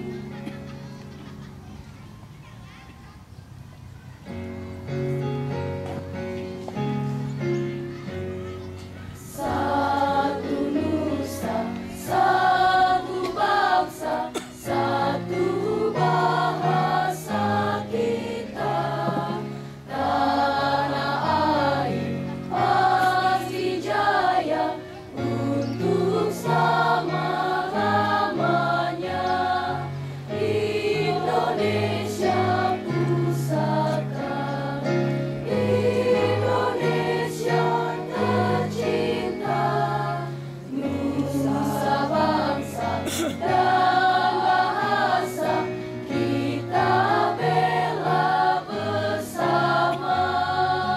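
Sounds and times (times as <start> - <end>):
children's choir singing: 0.0 - 0.7, 8.5 - 50.9.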